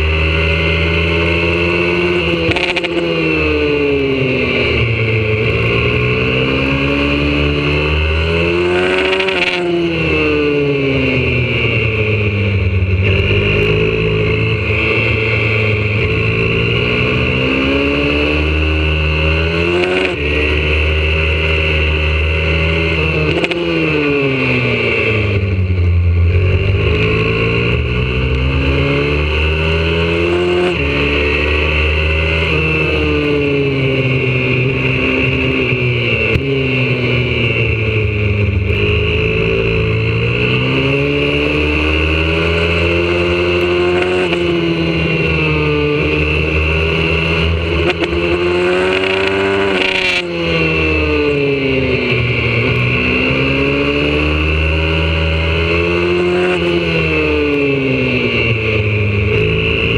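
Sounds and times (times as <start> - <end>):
motorbike engine accelerating: 0.0 - 59.9.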